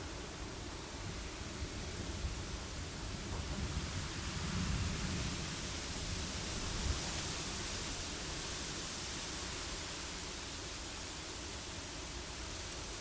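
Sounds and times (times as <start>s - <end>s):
wind and rain hiss: 0.0s - 13.0s.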